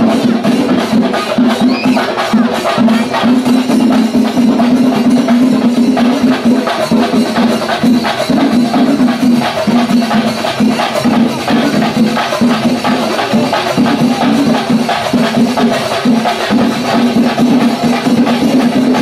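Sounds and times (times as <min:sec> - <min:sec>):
loud repeating low melodic tone: 0:00.0 - 0:19.0
percussion fast beat: 0:00.0 - 0:19.0.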